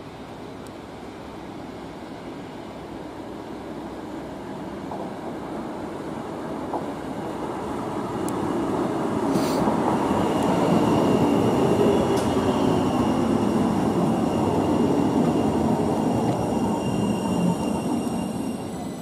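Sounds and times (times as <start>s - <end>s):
tram wheels rumbling on rails: 1.0s - 19.0s.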